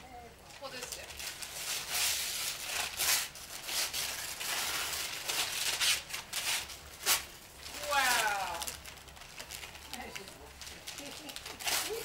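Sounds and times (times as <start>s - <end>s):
wrapping paper crinkling and tearing: 0.5s - 12.0s.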